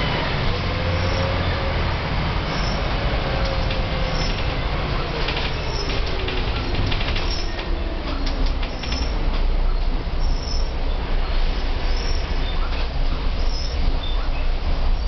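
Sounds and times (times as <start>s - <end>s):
bus engine and road drone: 0.0s - 15.0s.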